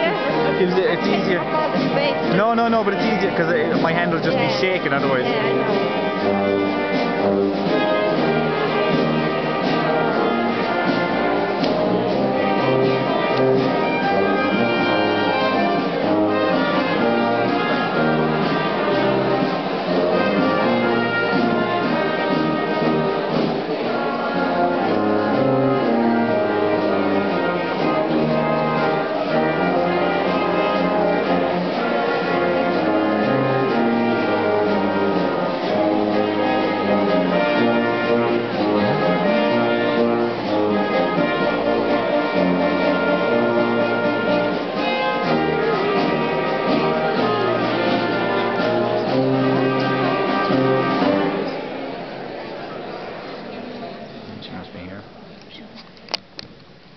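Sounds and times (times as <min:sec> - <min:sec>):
orchestral music with brass: 0:00.0 - 0:53.5.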